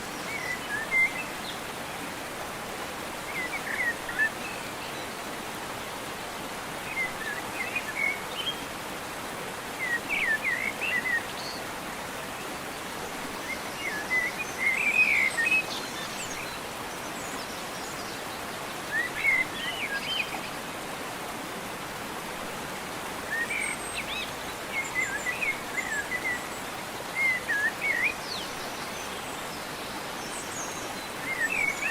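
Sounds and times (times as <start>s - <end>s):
steady outdoor hiss: 0.0s - 31.9s.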